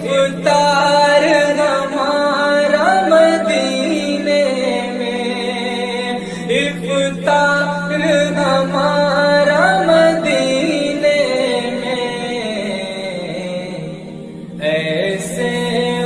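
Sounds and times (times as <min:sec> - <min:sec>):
solo voice singing: 0:00.0 - 0:16.0
steady low drone: 0:00.0 - 0:16.0.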